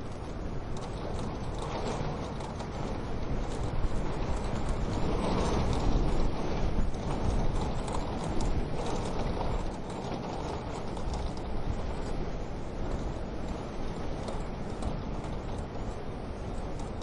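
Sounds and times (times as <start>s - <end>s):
low rushing of stove: 0.0s - 17.0s.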